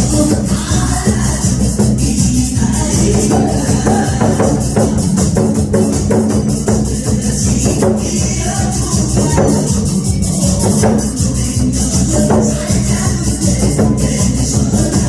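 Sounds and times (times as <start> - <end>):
drum beaten in steady rhythm: 0.0 - 15.0
recorded backing music: 0.0 - 15.0.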